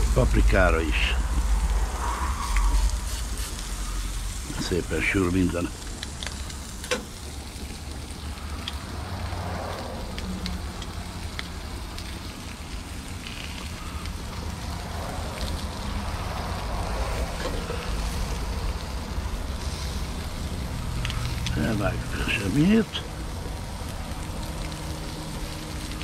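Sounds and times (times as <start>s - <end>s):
low rumble: 0.0s - 22.2s
food sizzling on a grill: 0.0s - 26.0s.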